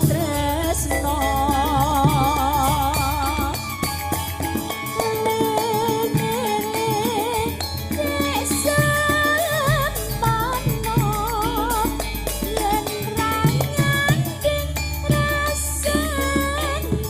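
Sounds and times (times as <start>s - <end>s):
bass line: 0.0s - 17.0s
percussion: 0.0s - 17.0s
wavering lead melody: 0.0s - 17.0s.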